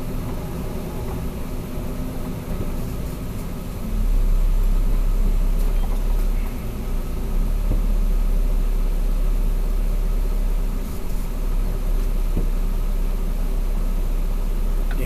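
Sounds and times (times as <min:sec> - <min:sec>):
truck engine rumble and road noise: 0:00.0 - 0:15.0.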